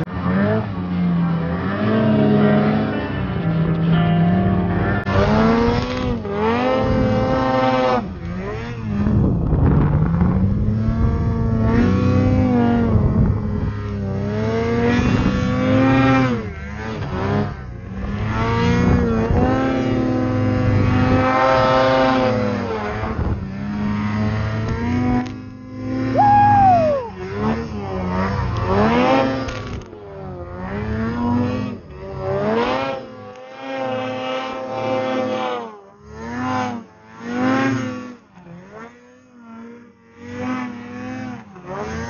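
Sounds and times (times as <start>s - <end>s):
snowmobile engine revving: 0.0s - 3.8s, 5.0s - 42.0s.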